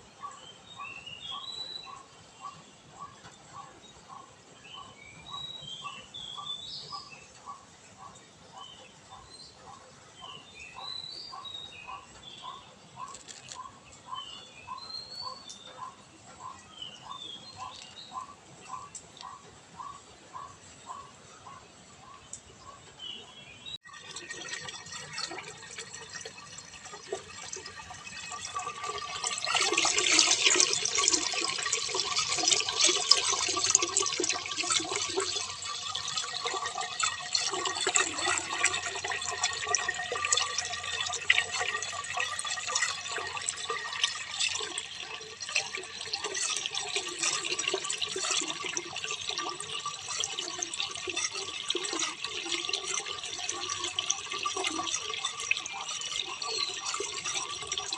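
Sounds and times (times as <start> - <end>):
small drips and splashes: 4.8 - 21.2, 23.8 - 57.9
running water: 8.1 - 22.6, 23.8 - 57.9.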